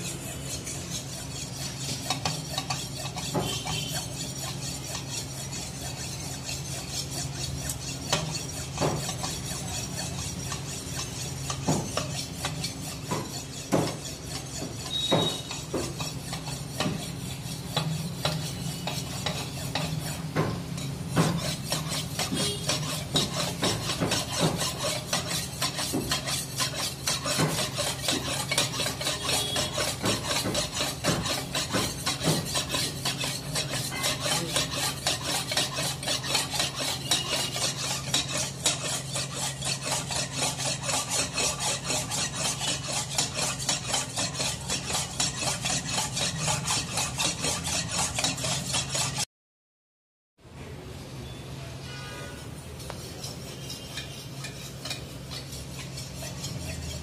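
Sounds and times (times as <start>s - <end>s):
blade scraping on sharpening stone: 0.0s - 49.3s, 52.2s - 57.0s.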